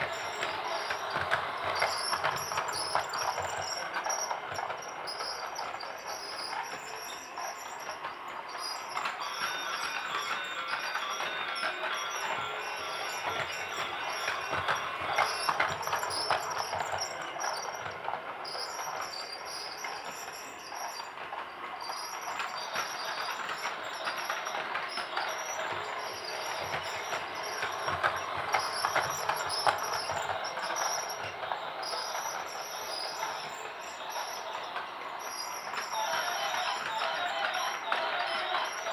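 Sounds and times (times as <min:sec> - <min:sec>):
toy train whirring: 0:00.0 - 0:38.9.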